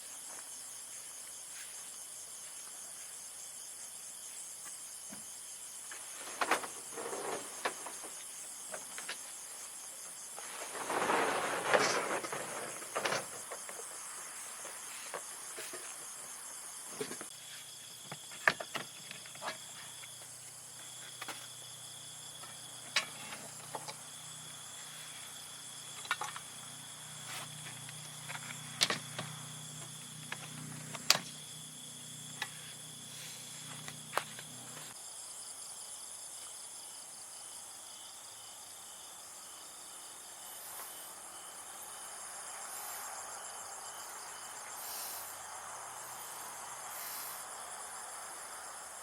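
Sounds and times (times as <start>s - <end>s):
insects calling in chorus: 0.0s - 49.0s.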